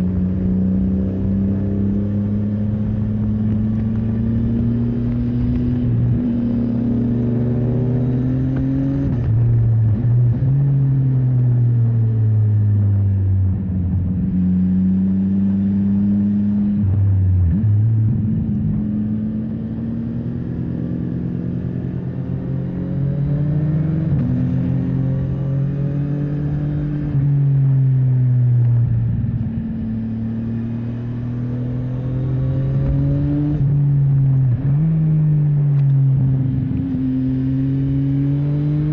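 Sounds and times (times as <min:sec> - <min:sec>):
motorcycle engine revving: 0:00.0 - 0:13.1, 0:13.8 - 0:28.2, 0:28.9 - 0:38.9.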